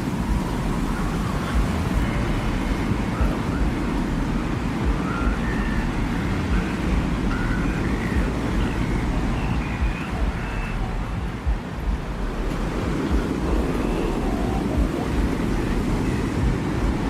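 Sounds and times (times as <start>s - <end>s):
deep wind rushing: 0.0s - 17.0s
faint high whistles: 0.0s - 17.0s.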